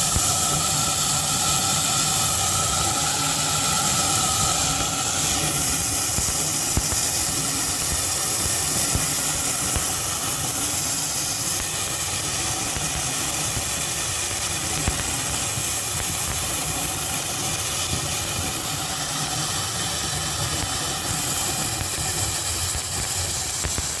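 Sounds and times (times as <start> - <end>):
drain-cleaning machine running: 0.0 - 24.0.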